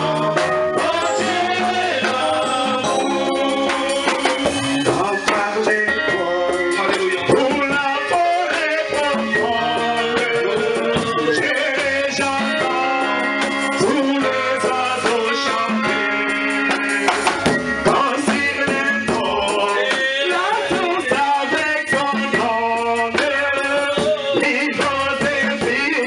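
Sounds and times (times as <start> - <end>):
man singing into a microphone: 0.0 - 17.1, 17.8 - 26.0
held instrumental chords: 0.0 - 26.0.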